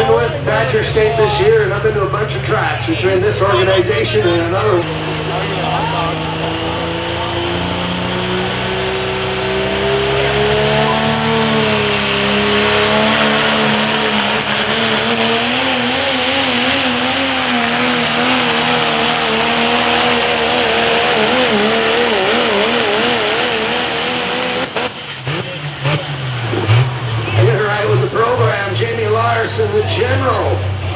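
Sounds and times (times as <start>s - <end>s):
diesel truck engine under load: 0.0s - 30.9s.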